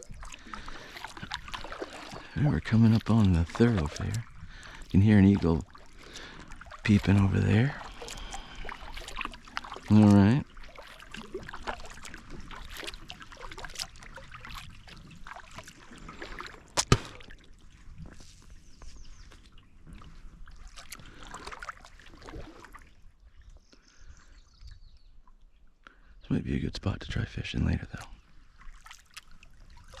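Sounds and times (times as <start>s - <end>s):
paddle splashing in water: 0.0s - 24.0s, 28.2s - 30.0s.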